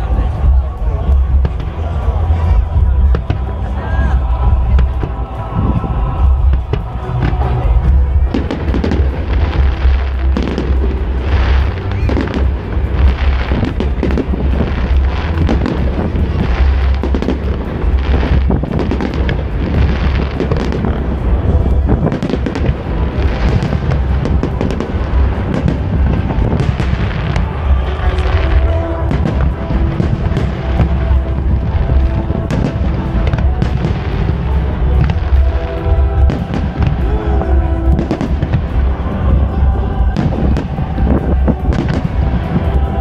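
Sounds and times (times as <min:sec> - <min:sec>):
fireworks crackling overhead: 0:00.0 - 0:43.0
low rumble: 0:00.0 - 0:43.0.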